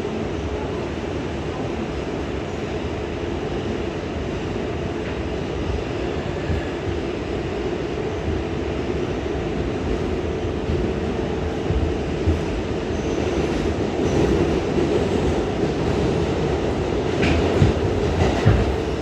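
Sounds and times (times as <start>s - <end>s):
subway train wheels on rails: 0.0s - 19.0s.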